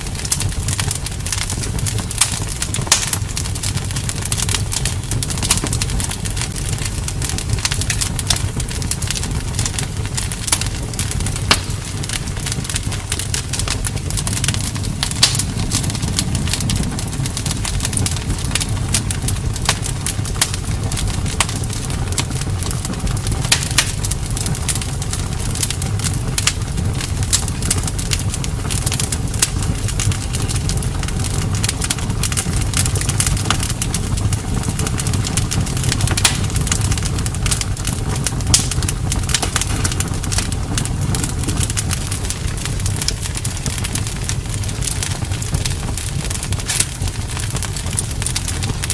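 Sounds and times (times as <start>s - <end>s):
bonfire crackling and popping: 0.0s - 48.9s
low fire rumble: 0.0s - 48.9s.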